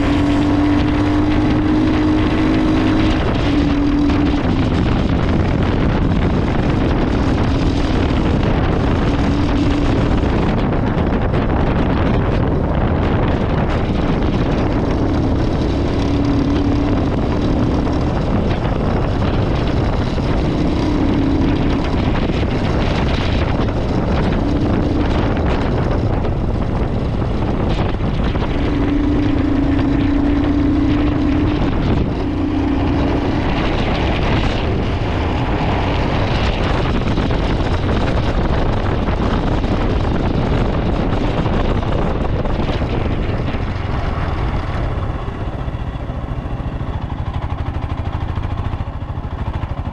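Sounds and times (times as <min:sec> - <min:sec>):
motorcycle engine revving: 0:00.0 - 0:49.9
wind noise on microphone: 0:00.0 - 0:49.9.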